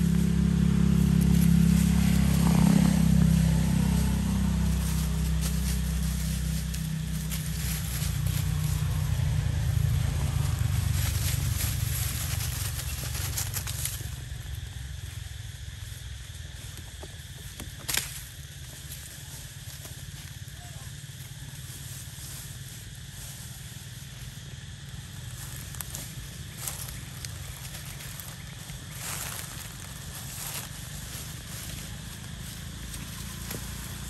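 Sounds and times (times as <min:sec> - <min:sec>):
dry leaves crackling and rustling: 0:00.0 - 0:34.0
engine humming: 0:00.0 - 0:34.0.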